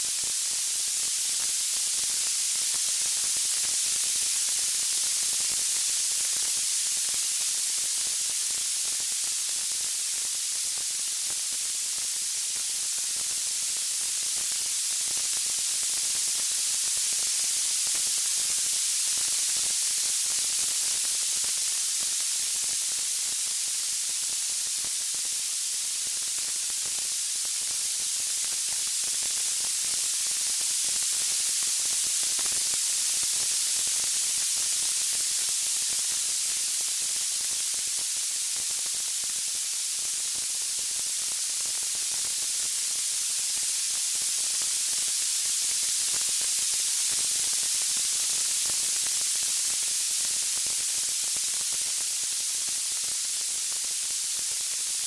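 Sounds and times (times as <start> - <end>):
high-pitched white noise hiss: 0.0 - 55.0.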